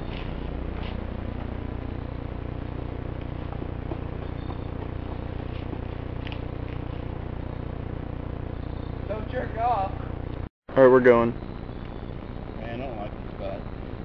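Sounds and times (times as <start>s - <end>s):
low rumble and hiss: 0.0s - 14.0s.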